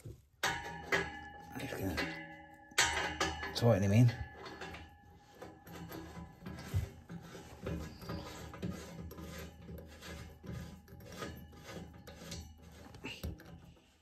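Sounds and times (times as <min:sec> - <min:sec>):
spanner metallic scrapes and knocks: 0:00.0 - 0:14.0.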